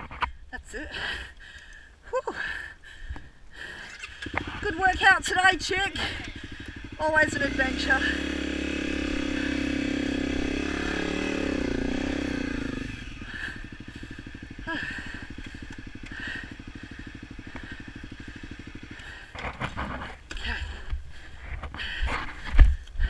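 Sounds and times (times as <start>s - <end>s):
motorcycle engine running: 3.6s - 23.0s.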